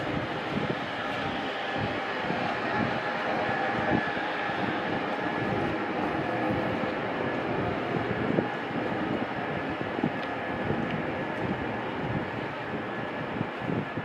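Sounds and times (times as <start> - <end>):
faint steady tones: 0.0 - 14.0
traffic rumble: 0.0 - 14.0.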